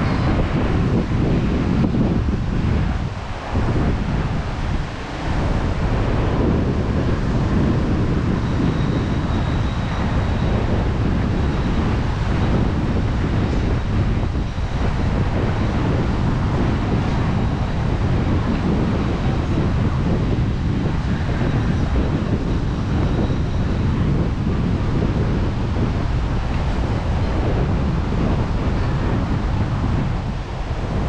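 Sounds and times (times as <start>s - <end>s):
ocean surf washing: 0.0s - 31.0s
wind rumbling on microphone: 0.0s - 31.0s.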